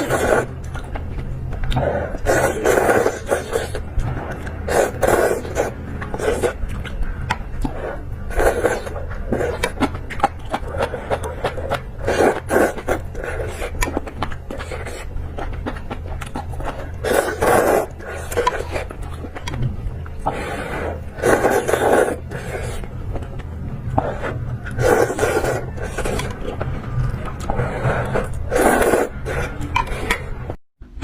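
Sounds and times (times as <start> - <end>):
chewing and mouth noises: 0.0 - 30.5
steady low hum: 0.0 - 31.0.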